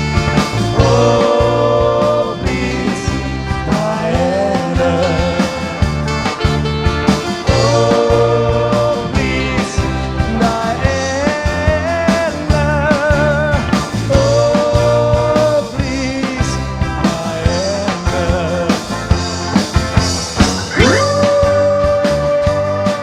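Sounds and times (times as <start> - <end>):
live rock and roll band: 0.0 - 23.0.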